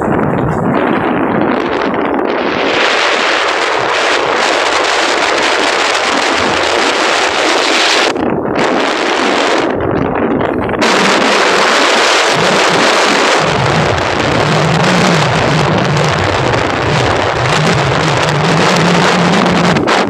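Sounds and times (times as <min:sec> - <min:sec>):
low engine hum: 0:00.0 - 0:20.0
wind rushing over microphone: 0:00.0 - 0:20.0.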